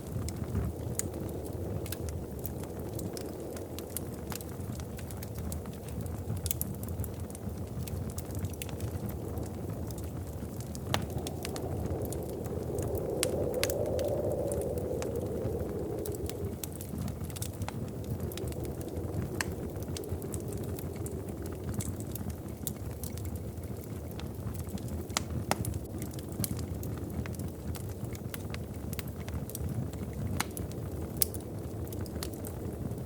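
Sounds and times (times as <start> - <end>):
steady low rumble: 0.0 - 33.0
wood fire crackling: 0.0 - 33.0.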